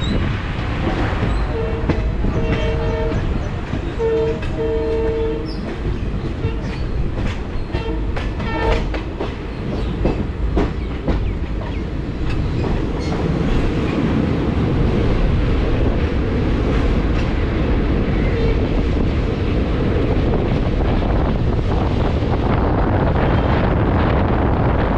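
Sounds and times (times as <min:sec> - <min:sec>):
train wheels on rails: 0:00.0 - 0:24.9.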